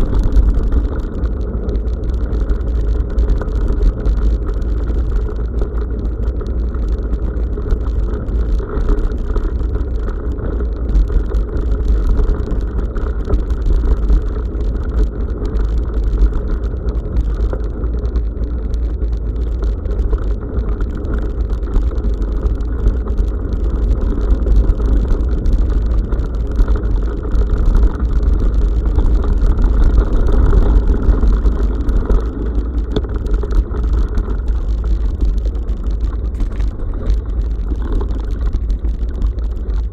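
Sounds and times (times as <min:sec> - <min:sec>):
small rattles and clicks: 0:00.0 - 0:39.9
wind and tyre rumble: 0:00.0 - 0:39.9.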